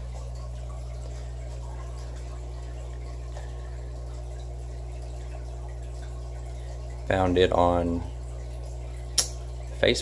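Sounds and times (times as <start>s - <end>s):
filter electrical hum: 0.0s - 10.0s
water trickling: 0.0s - 10.0s.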